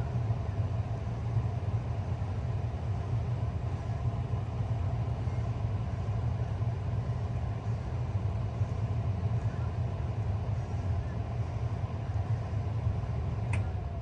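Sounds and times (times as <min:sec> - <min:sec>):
heat pump humming and rushing: 0:00.0 - 0:14.0.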